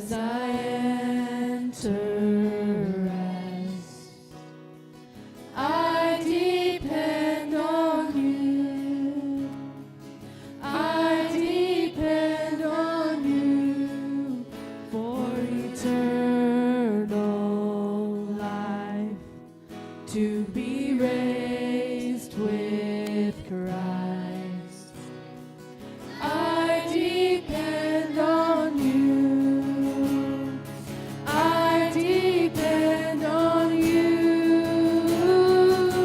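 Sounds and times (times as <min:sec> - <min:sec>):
person singing worship song: 0:00.0 - 0:36.0
strummed acoustic guitar: 0:00.0 - 0:36.0.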